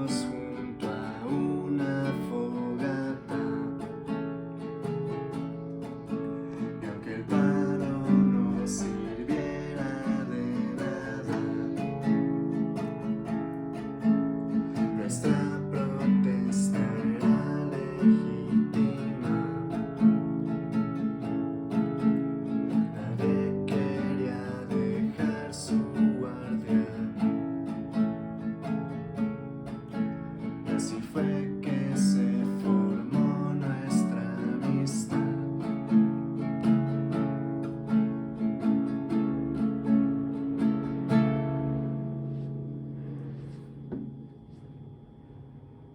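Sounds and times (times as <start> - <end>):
acoustic guitar playing: 0.0 - 45.9.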